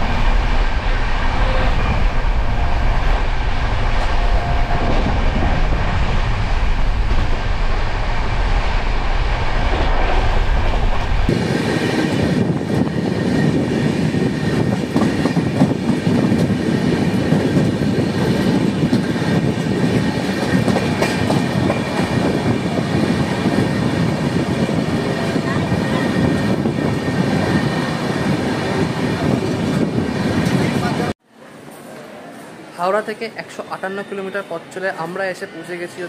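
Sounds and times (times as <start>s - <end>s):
train running on rails: 0.0s - 36.0s.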